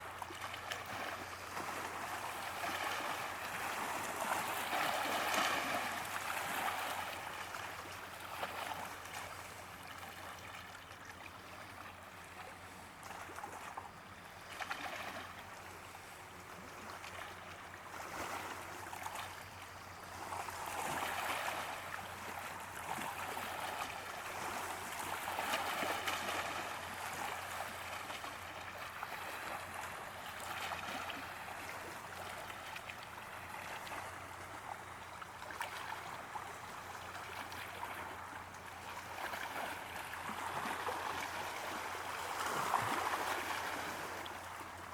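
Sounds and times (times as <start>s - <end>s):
small waves washing on shore: 0.0s - 44.9s.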